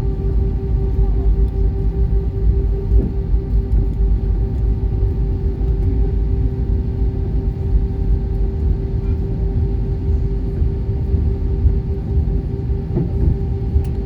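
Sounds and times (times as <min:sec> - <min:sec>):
aircraft engines idling: 0:00.0 - 0:14.0.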